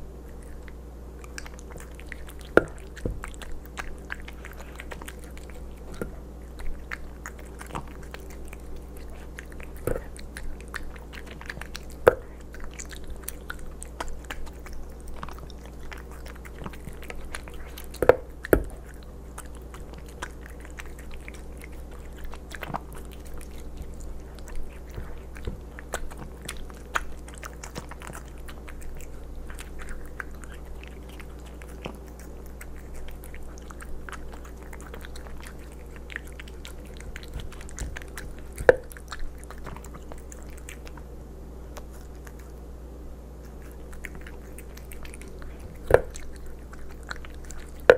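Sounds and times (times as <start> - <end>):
cat chewing wet food: 0.0 - 42.7, 43.3 - 47.9.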